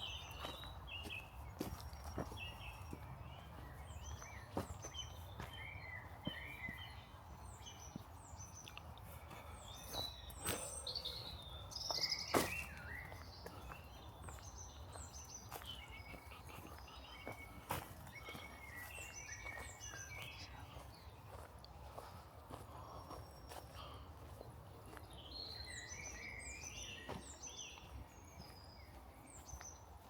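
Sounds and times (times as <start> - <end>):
songbirds chirping and singing: 0.0 - 30.0.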